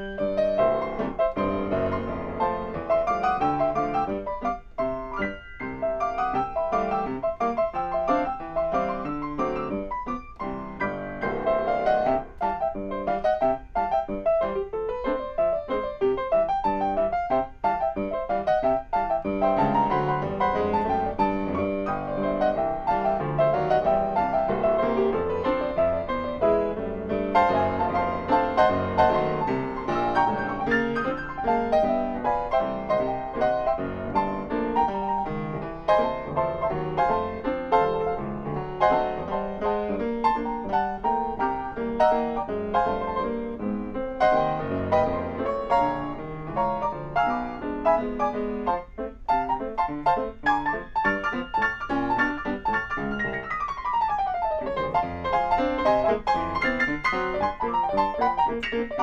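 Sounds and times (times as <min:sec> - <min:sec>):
fast grand piano passage: 0:00.0 - 0:59.0.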